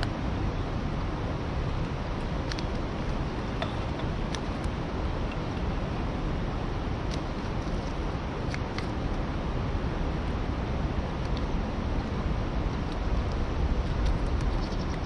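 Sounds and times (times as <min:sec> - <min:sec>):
wind on the microphone: 0:00.0 - 0:15.0.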